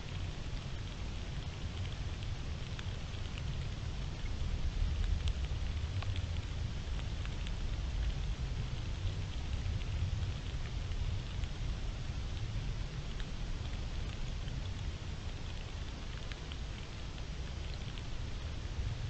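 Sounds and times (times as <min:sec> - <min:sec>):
faint ticks: 0:00.0 - 0:19.0
low rumble and hiss: 0:00.0 - 0:19.0.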